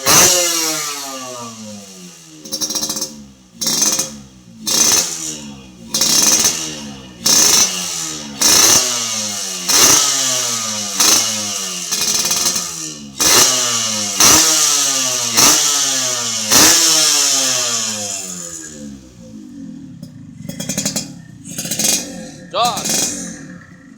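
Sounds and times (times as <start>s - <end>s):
two-stroke engine revving: 0.0s - 23.9s.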